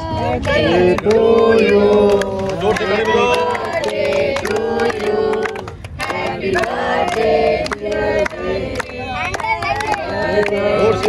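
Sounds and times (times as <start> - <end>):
people singing a birthday song: 0.0 - 11.0
hand clapping: 0.4 - 11.0.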